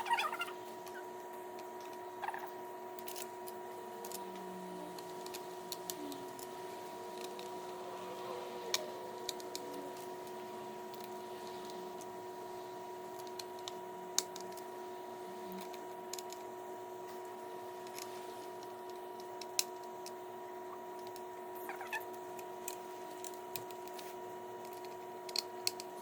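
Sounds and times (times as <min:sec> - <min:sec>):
faint electrical whine: 0:00.0 - 0:26.0.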